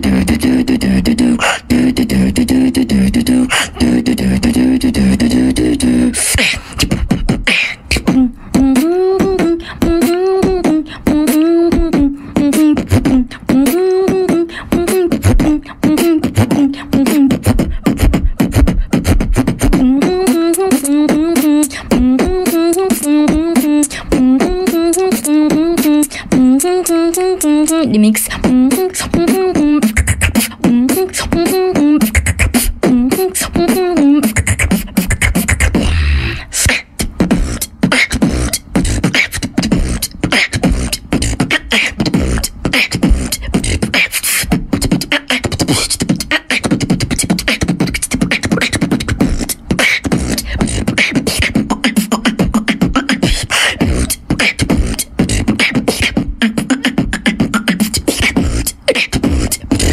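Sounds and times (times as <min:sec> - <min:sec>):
steady low hum: 0:00.0 - 0:59.9
woman beatboxing: 0:00.0 - 0:59.9
hummed melody: 0:07.9 - 0:59.9.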